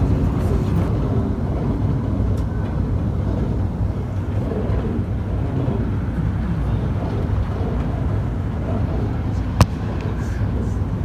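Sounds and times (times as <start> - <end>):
train rumbling inside cabin: 0.0 - 11.0.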